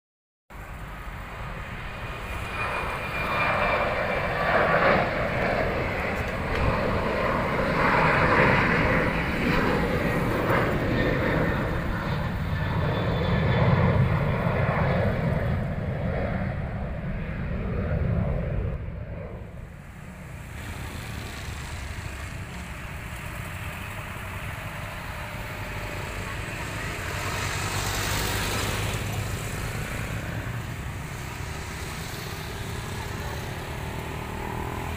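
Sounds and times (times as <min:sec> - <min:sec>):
jet engines roaring at takeoff: 0:00.5 - 0:34.9.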